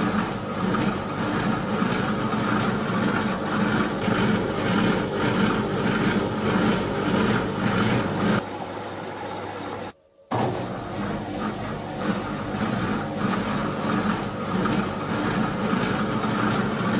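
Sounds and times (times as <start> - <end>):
washing machine churning: 0.0 - 16.9.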